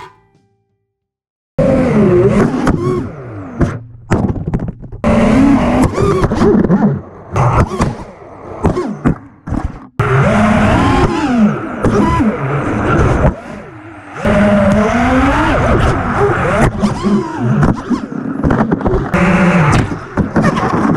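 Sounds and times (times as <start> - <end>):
quadcopter motors whining: 1.6 - 3.8, 5.0 - 9.0, 10.0 - 20.9.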